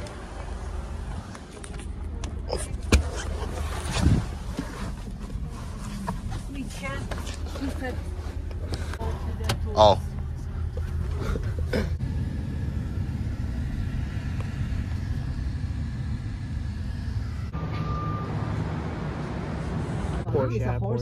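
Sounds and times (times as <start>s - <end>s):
road and engine rumble inside van: 0.0s - 21.0s.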